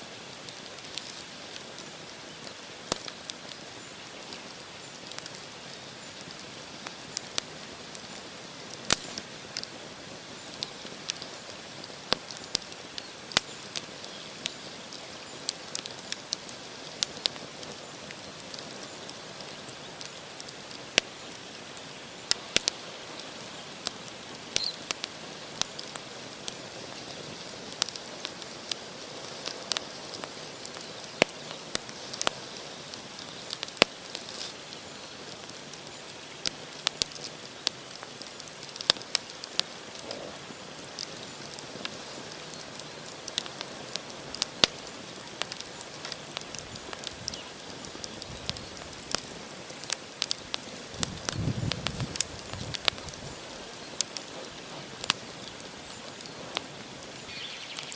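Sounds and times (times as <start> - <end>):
campfire crackling and popping: 0.0 - 57.9
fire hissing: 0.0 - 57.9.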